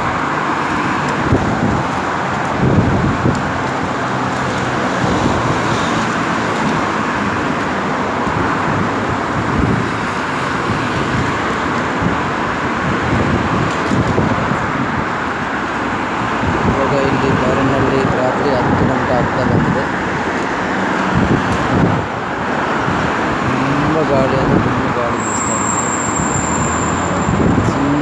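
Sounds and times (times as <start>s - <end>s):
cars driving past: 0.0s - 28.0s
wind rumbling on microphone: 0.0s - 28.0s.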